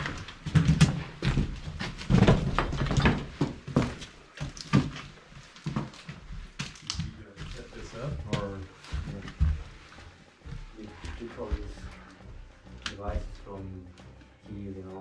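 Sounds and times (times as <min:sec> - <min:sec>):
knocks and thumps in a room: 0:00.0 - 0:13.5.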